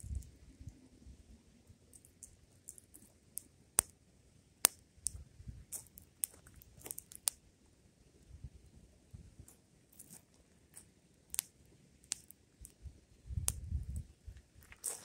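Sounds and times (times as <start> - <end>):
fire crackling: 0.0 - 7.5, 9.1 - 15.0.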